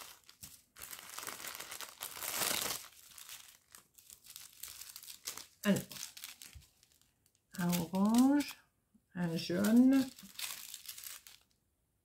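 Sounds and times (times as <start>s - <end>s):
plastic sachets crinkling: 0.0s - 8.6s, 9.3s - 11.6s.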